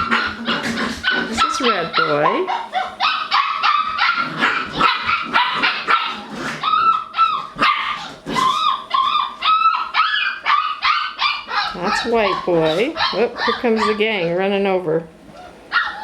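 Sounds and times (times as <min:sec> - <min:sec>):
puppies whining: 0:00.0 - 0:14.6, 0:15.2 - 0:16.0
puppies yipping and barking: 0:00.0 - 0:14.6, 0:15.3 - 0:16.0.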